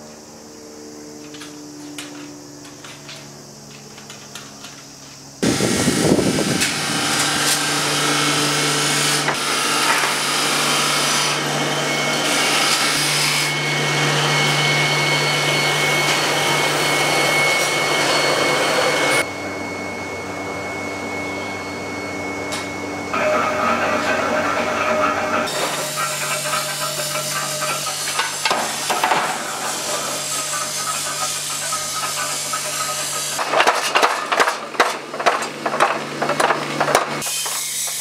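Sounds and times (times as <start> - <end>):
high machine whine: 0.0 - 38.0
machinery hissing and humming: 0.0 - 38.0.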